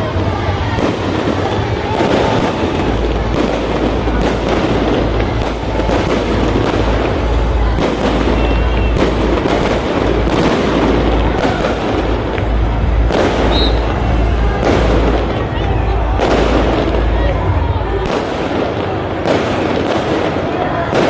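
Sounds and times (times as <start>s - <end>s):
low rumble: 0.0s - 19.2s.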